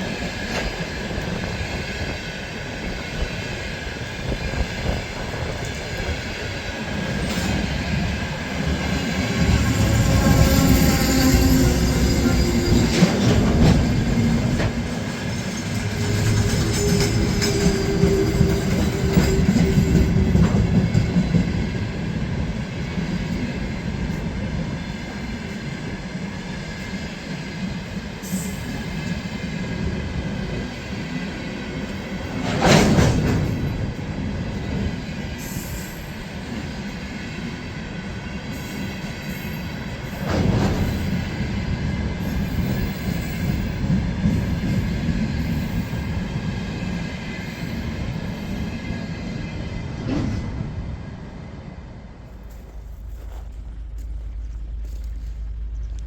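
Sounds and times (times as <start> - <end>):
loud train clattering bursts: 0.0 - 52.5
train rumbling on rails: 0.0 - 56.0.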